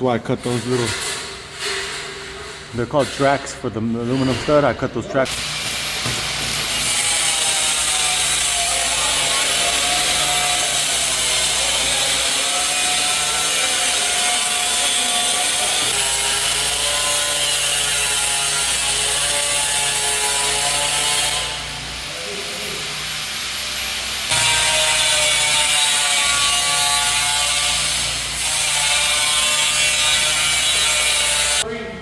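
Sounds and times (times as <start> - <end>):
power tool cutting metal: 5.3 - 31.6.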